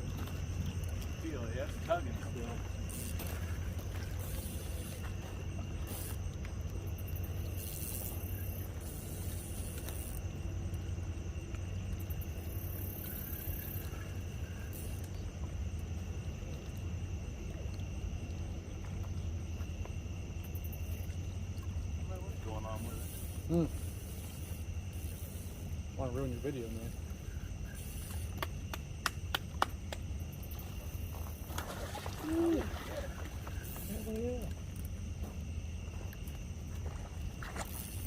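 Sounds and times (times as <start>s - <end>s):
steady low rumble: 0.0s - 31.4s
high insect trill: 0.0s - 38.0s.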